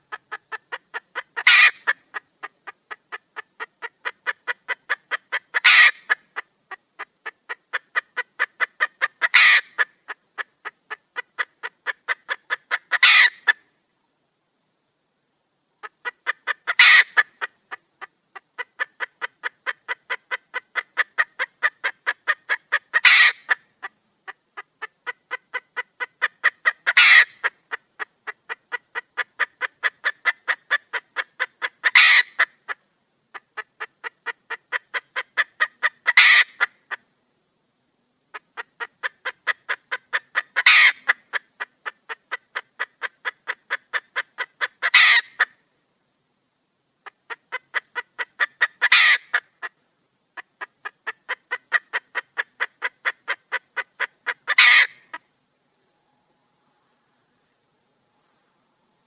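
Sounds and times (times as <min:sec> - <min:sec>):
hen clucking: 0:00.0 - 0:13.7, 0:15.8 - 0:37.1, 0:38.3 - 0:45.6, 0:47.0 - 0:55.3.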